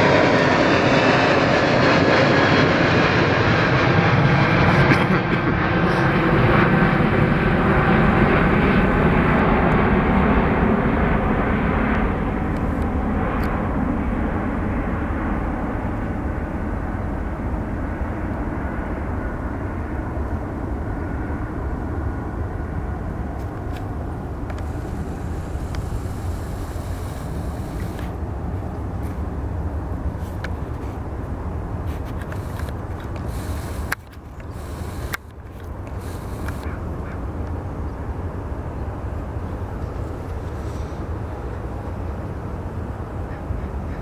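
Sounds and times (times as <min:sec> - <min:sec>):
jet airliner engines rumbling: 0:00.0 - 0:44.0.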